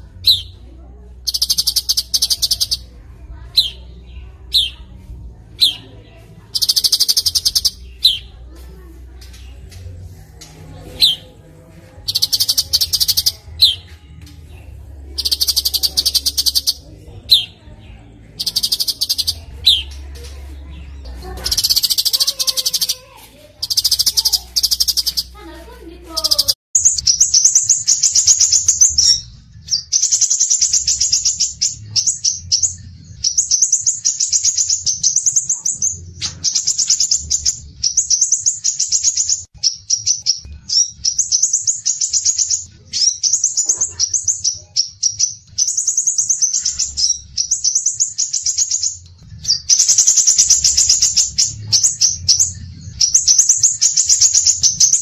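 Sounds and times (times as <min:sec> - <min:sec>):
songbird trilling: 0:01.2 - 0:04.9, 0:06.5 - 0:08.3, 0:12.0 - 0:13.9, 0:15.1 - 0:20.0, 0:21.4 - 0:23.0, 0:23.6 - 0:25.4, 0:26.2 - 0:55.0.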